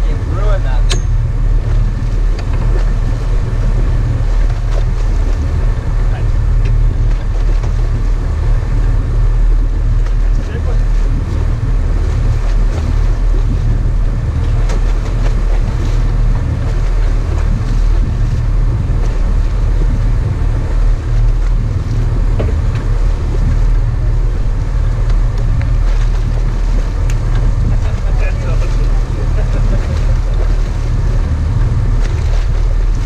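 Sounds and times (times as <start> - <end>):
boat engine rumbling: 0.0 - 33.0
wind noise on microphone: 0.0 - 33.0.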